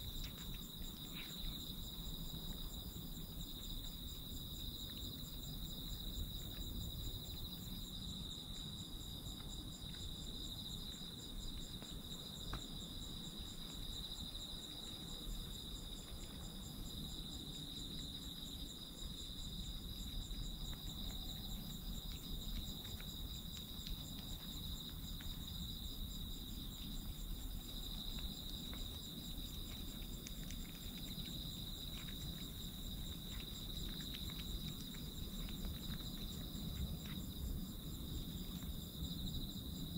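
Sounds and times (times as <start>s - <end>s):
crickets chirring: 0.0s - 39.9s
kitten licking and chewing: 0.0s - 39.9s.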